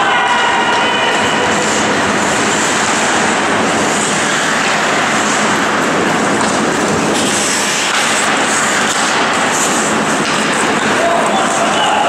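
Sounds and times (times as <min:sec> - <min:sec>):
ice rink crowd din: 0:00.0 - 0:12.0.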